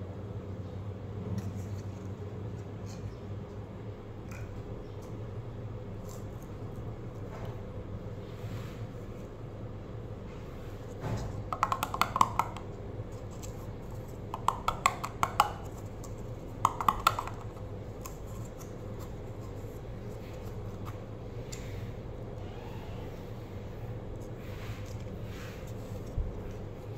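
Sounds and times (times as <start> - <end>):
low steady hum: 0.0 - 26.9.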